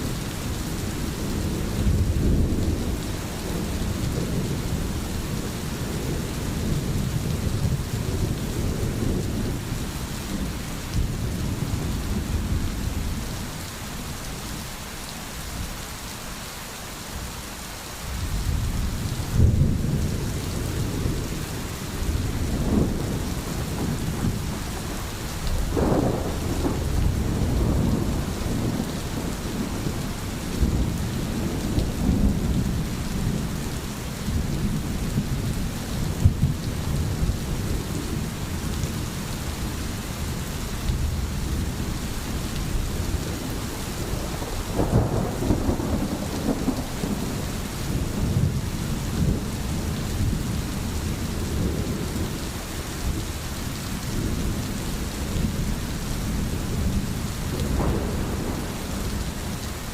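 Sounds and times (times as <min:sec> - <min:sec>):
heavy rain: 0:00.0 - 0:59.9
low rumbling thunder: 0:00.4 - 0:13.4, 0:18.2 - 0:52.4, 0:53.0 - 0:59.9.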